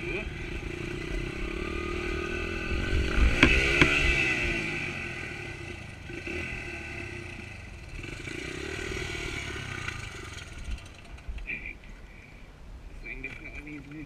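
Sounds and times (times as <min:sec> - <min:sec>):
small motorbike engine revving: 0:00.0 - 0:11.5.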